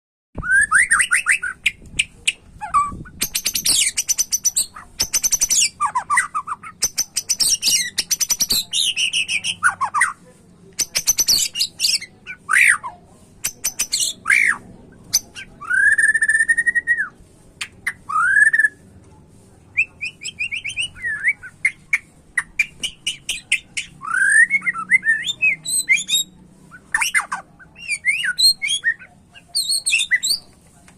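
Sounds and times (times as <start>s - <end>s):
songbird singing whistles and trills: 0.4s - 10.2s, 10.8s - 18.8s, 19.8s - 30.6s.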